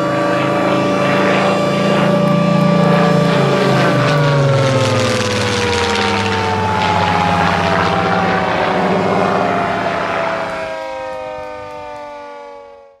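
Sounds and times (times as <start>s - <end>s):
low hum: 0.0s - 11.5s
air raid siren winding down: 0.0s - 13.0s.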